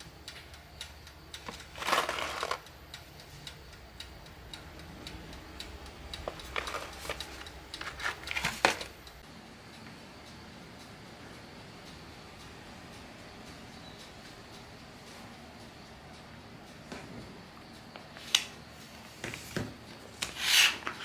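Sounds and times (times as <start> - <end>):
light ticking: 0.0 - 19.1.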